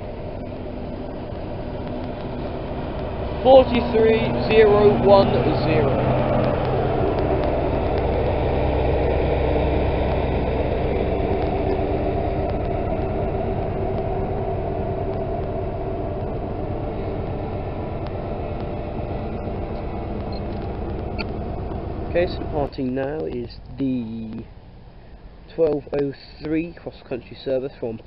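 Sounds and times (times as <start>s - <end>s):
train diesel engine drone: 0.0s - 28.0s.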